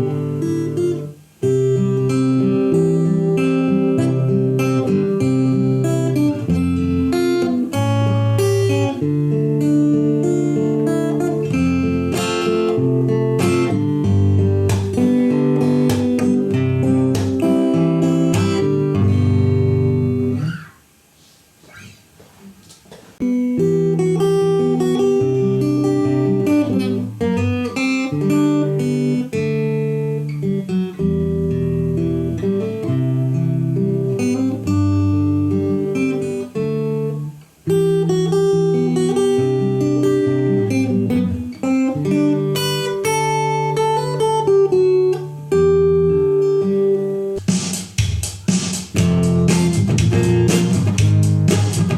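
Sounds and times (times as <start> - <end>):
amplified acoustic guitar playing: 0.0 - 51.9.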